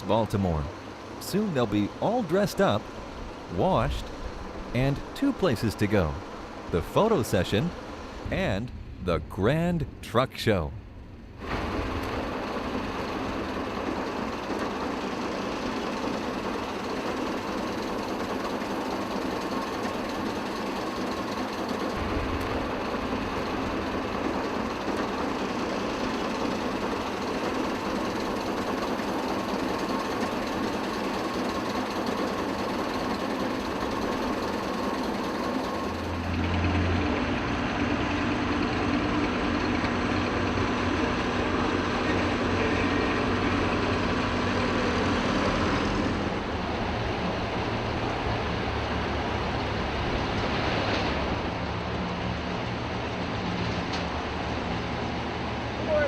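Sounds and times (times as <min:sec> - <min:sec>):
truck wash rushing: 0:00.0 - 0:08.5, 0:11.2 - 0:56.0
heavy truck engines running: 0:00.0 - 0:56.0.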